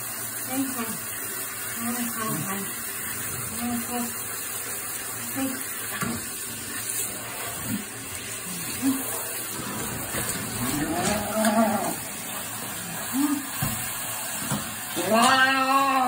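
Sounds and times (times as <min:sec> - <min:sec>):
shower spray running: 0:00.0 - 0:16.0.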